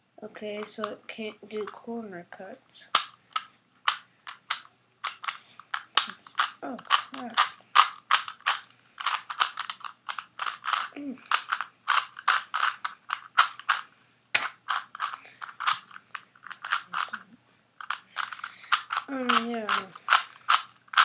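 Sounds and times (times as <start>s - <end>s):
puzzle cube plastic clicks: 2.9s - 21.0s.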